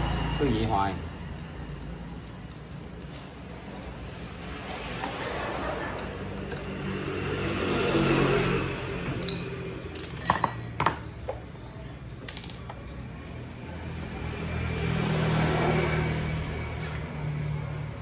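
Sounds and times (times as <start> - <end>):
scooter engine humming: 0.0 - 12.2, 12.8 - 18.0.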